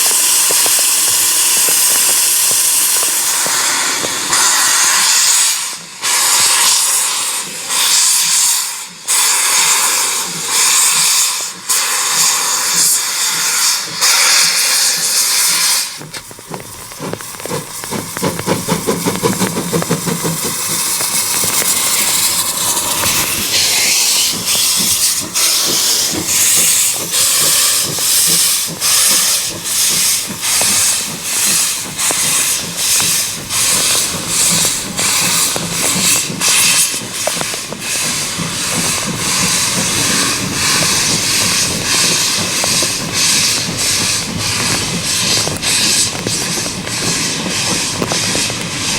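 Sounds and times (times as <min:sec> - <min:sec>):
rhythmic locomotive beat: 0:00.0 - 0:48.9
steam locomotive hissing: 0:00.0 - 0:48.9.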